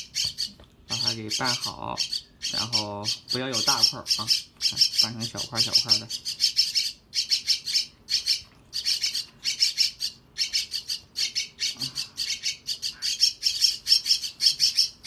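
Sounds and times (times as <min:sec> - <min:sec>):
chicks begging calls: 0:00.0 - 0:15.0.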